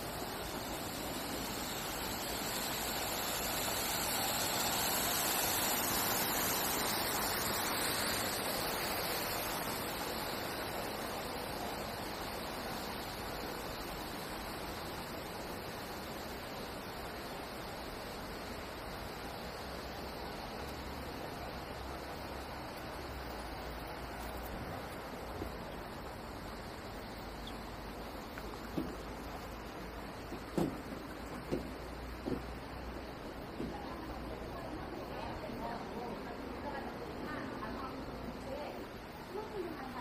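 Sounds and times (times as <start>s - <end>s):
stream water rushing: 0.0s - 34.6s.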